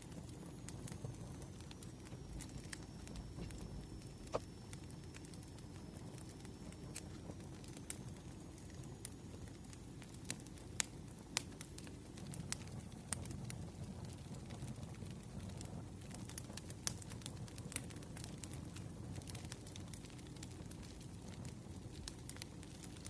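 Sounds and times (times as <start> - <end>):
campfire crackling and popping: 0.0 - 23.0
rumble of burning wood: 0.0 - 23.0.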